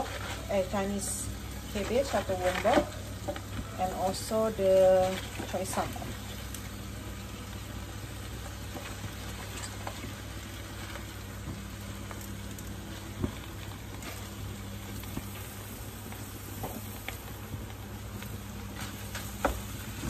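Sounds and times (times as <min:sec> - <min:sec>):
leaves sizzling in hot wok: 0:00.0 - 0:20.0
steady low hum: 0:00.0 - 0:20.0.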